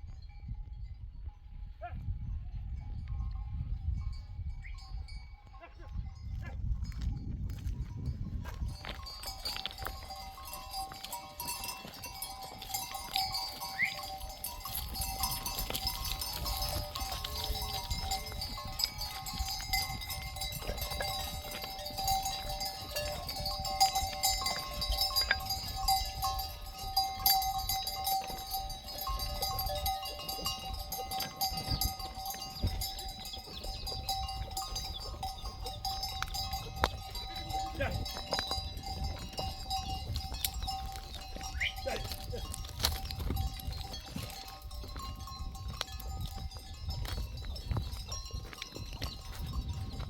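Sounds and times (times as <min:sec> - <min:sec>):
livestock bells ringing: 0:00.0 - 0:50.0.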